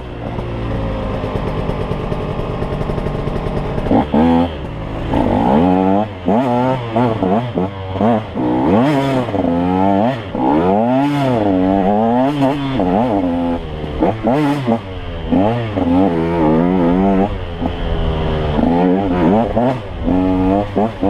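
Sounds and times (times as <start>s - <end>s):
dirt bike engine revving: 2.8s - 21.0s.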